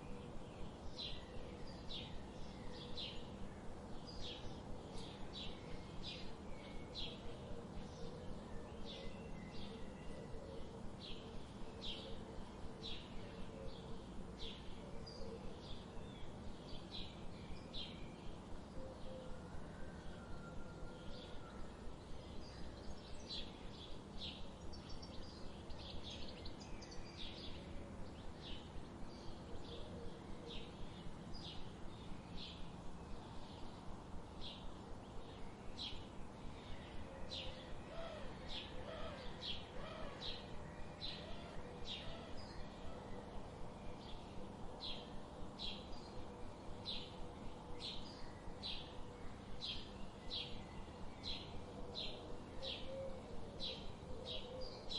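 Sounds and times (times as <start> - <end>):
low background hiss: 0.0 - 54.9.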